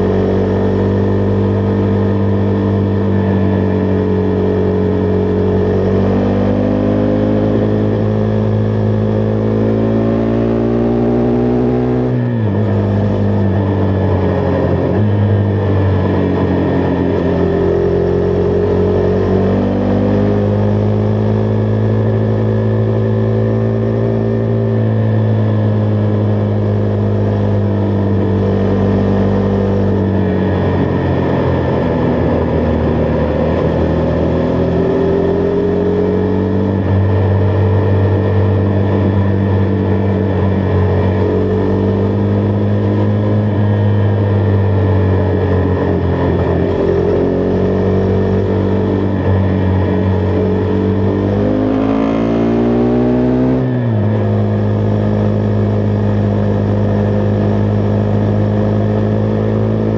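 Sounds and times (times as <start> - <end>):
motorcycle engine cruising: 0.0 - 59.9
motorcycle engine revving: 0.0 - 59.9.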